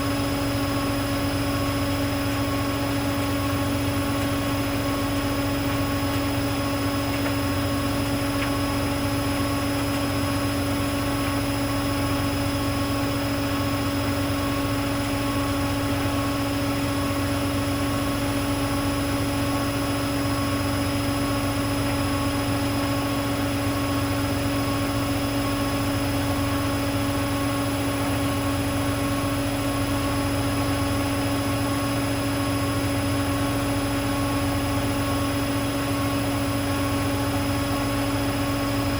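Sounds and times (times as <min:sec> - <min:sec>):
washing machine motor whine: 0:00.0 - 0:38.9.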